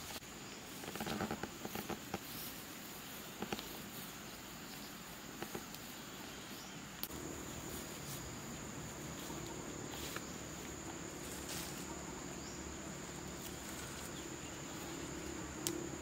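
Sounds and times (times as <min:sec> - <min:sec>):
insects trilling: 0:00.0 - 0:16.0
rustling of grass underfoot: 0:00.0 - 0:16.0.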